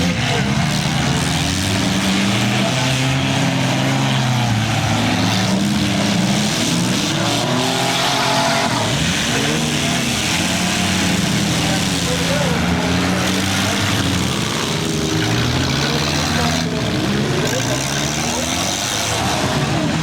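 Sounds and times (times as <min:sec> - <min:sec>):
small car engines revving: 0:00.0 - 0:20.0.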